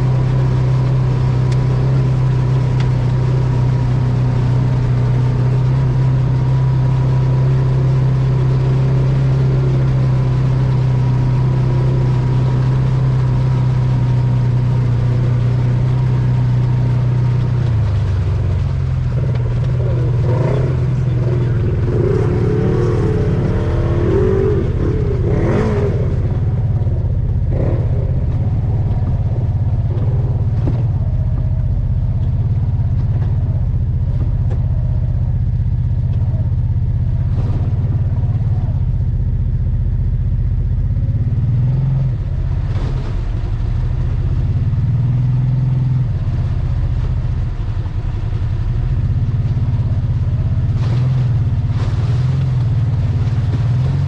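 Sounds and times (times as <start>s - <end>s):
utv engine running: 0.0s - 54.0s.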